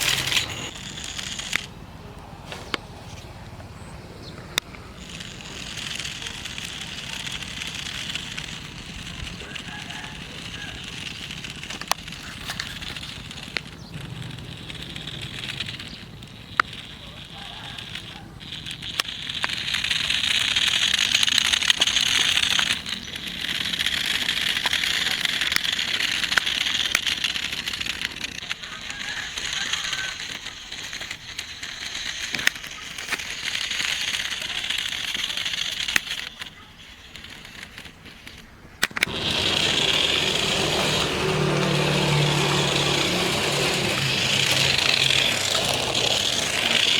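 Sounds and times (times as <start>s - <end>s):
toy car rattling over ground: 0.0s - 3.4s, 4.3s - 46.9s.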